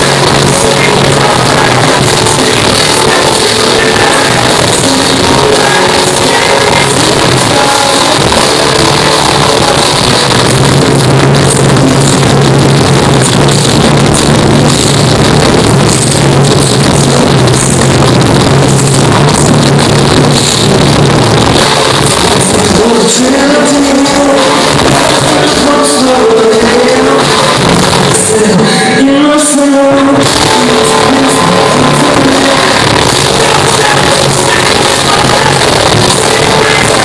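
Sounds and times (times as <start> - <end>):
distorted live rock band: 0.0 - 37.0.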